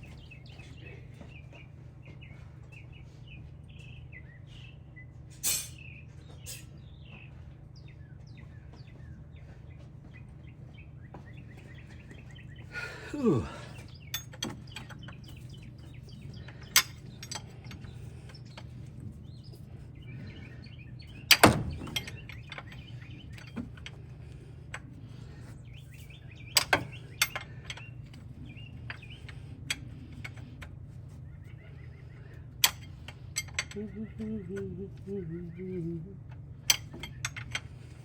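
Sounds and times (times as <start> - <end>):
birds chirping faintly: 0.0 - 38.0
steady low hum: 0.0 - 38.0.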